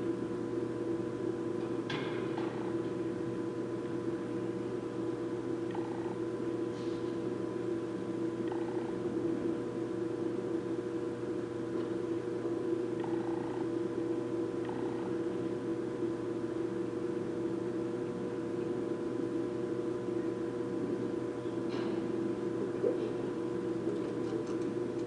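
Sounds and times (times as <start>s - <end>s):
steady hum of constant tones: 0.0s - 25.0s.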